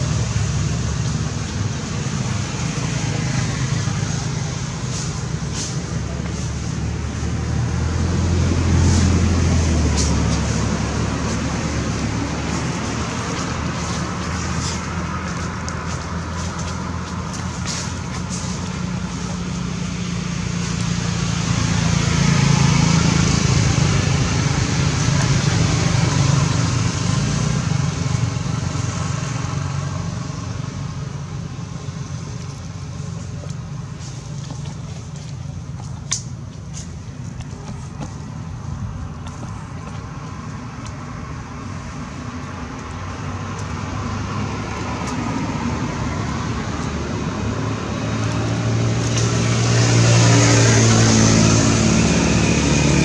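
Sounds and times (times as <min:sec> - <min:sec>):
low engine drone: 0:00.0 - 0:53.0.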